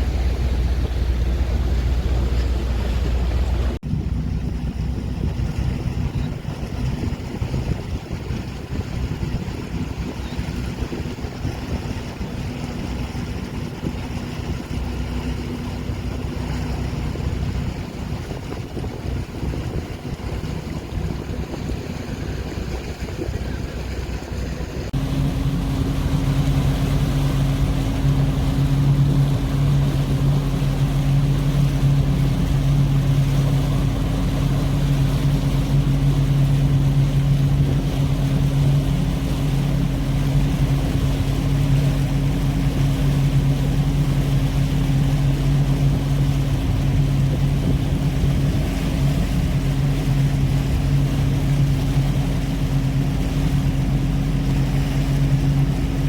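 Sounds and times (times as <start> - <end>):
motor droning: 0.0 - 56.0
rumbling wash: 0.0 - 56.0.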